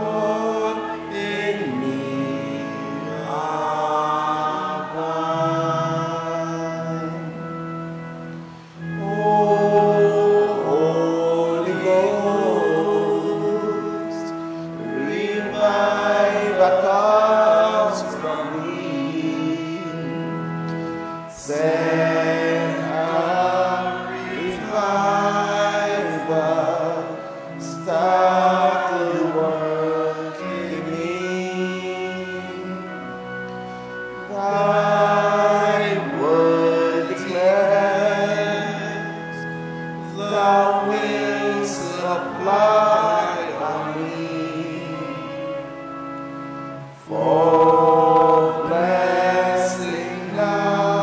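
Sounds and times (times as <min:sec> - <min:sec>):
congregation singing a hymn: 0:00.0 - 0:51.0
held accompaniment chords: 0:00.0 - 0:51.0.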